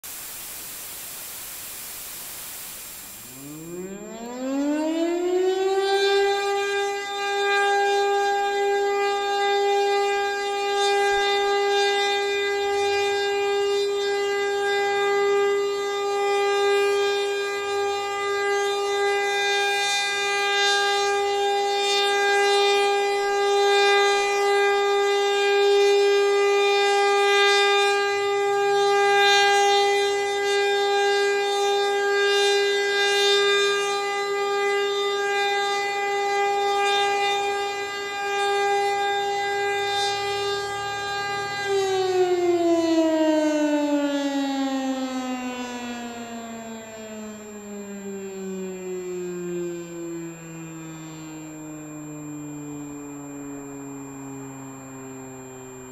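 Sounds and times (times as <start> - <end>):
civil defence siren: 2.6 - 55.9.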